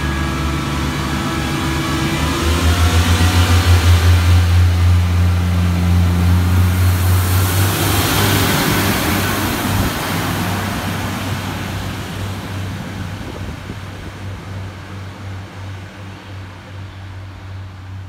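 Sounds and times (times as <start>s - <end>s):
diesel train engine droning: 0.0s - 18.0s
rush of passing train: 0.0s - 18.0s.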